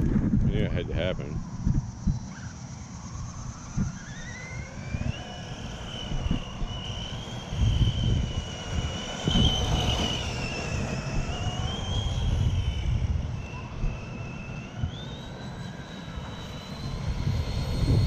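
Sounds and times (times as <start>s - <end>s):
wind rumble: 0.0s - 18.0s
electric motor whining: 1.4s - 18.0s.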